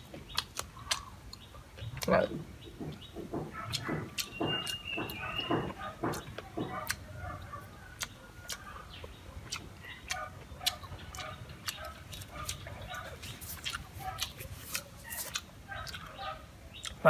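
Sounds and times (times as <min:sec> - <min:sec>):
person chewing crunchy food: 0:00.0 - 0:02.2, 0:02.9 - 0:07.4, 0:08.0 - 0:17.0
chickens clucking: 0:00.2 - 0:17.0.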